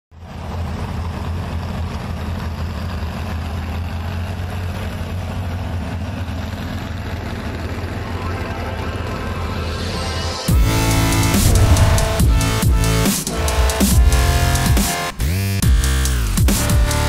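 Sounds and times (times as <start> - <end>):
truck engine droning at low revs: 0.2 - 17.0.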